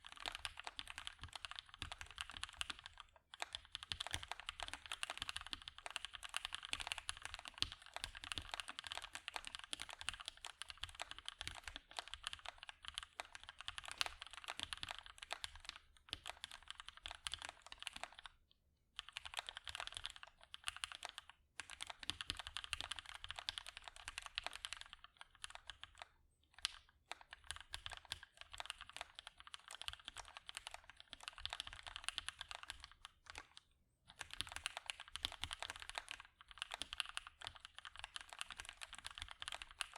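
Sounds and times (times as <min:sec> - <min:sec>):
typing on mechanical keyboard: 0:00.0 - 0:18.4, 0:19.0 - 0:39.9.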